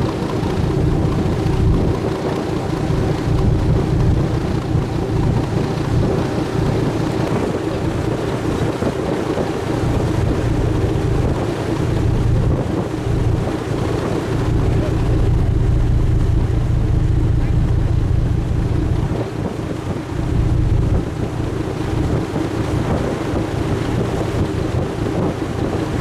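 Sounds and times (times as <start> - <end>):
ship engine rumble: 0.0 - 26.0
wind noise on microphone: 0.0 - 26.0.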